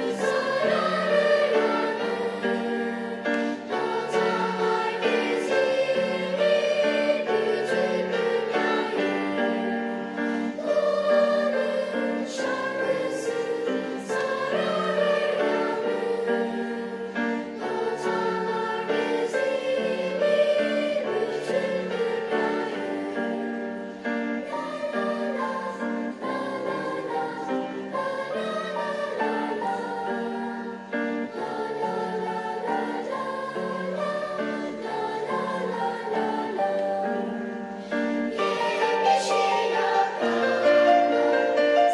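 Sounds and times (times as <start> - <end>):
children's choir singing: 0.0 - 41.9.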